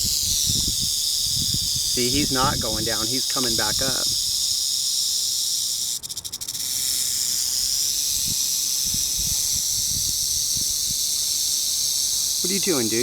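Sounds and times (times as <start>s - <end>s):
rattlesnake rattling: 0.0s - 13.0s.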